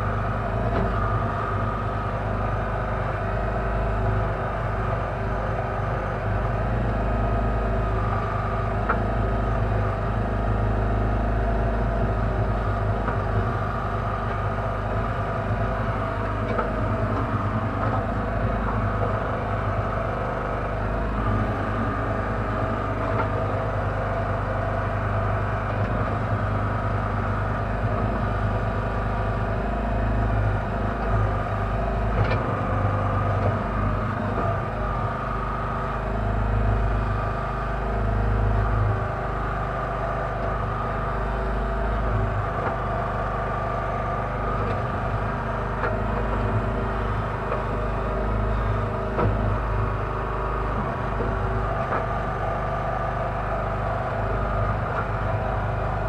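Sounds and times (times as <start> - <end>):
backhoe engine and hydraulics running: 0.0 - 56.0.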